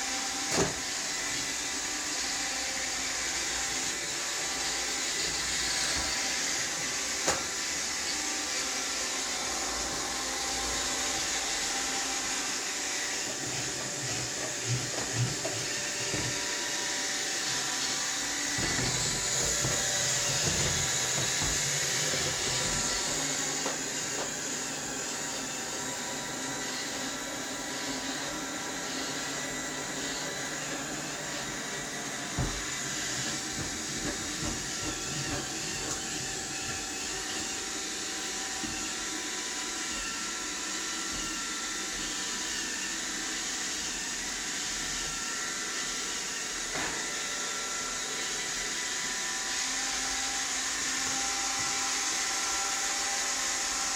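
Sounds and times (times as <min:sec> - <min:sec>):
robot vacuum running: 0:00.0 - 0:53.9.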